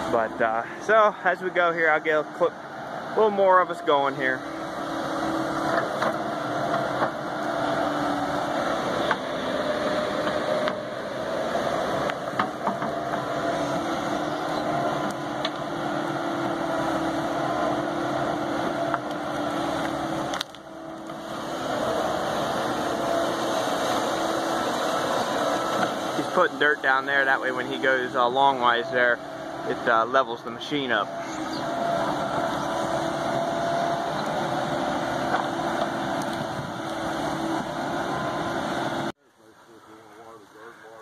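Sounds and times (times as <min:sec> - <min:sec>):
excavator diesel engine: 0:00.0 - 0:39.2.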